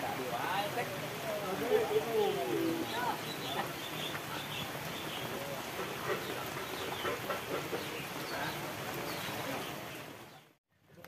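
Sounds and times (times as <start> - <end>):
faint voices chattering: 0.0 - 11.0
rain falling on pond water: 0.0 - 11.0.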